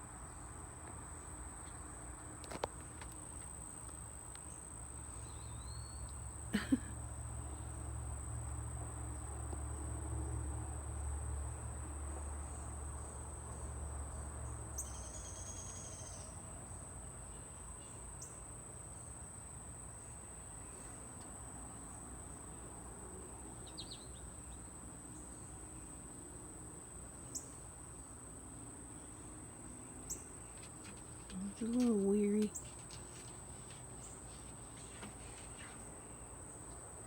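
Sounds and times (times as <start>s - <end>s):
crickets chirping: 0.0s - 37.0s.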